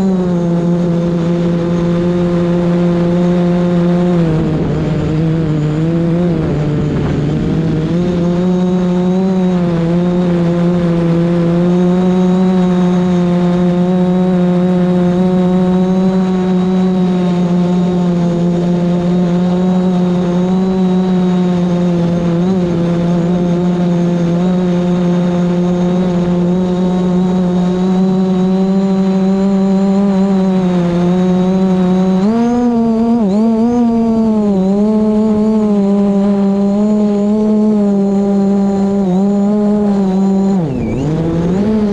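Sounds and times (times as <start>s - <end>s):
drone propellers whining: 0.0s - 41.9s
wind rumble on microphone: 0.0s - 41.9s.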